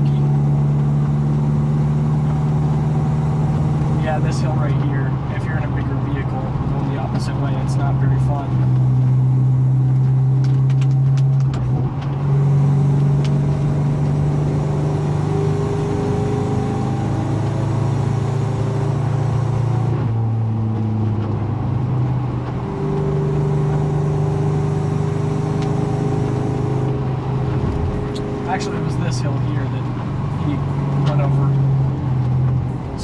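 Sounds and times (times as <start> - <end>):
pickup engine cruising: 0.0 - 33.0.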